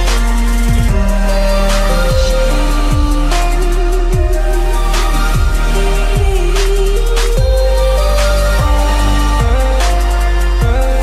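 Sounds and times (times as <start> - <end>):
deep bass: 0.0 - 11.0
held melody notes: 0.0 - 11.0.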